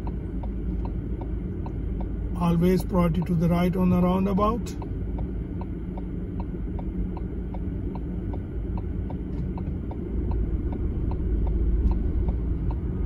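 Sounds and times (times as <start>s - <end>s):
car indicator ticking: 0.0s - 13.0s
engine and traffic rumble: 0.0s - 13.0s.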